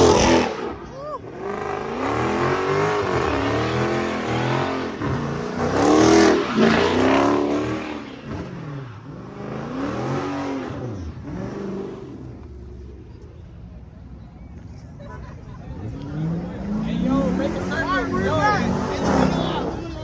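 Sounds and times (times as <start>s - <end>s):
car engine revving: 0.0s - 14.2s, 15.8s - 20.0s.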